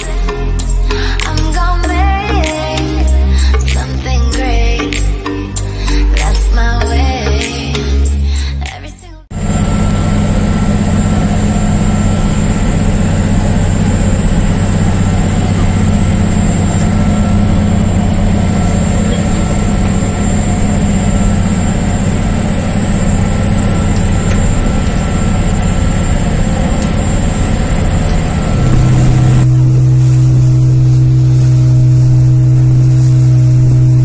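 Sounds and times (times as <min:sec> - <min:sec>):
ferry engines droning: 0:00.0 - 0:34.0.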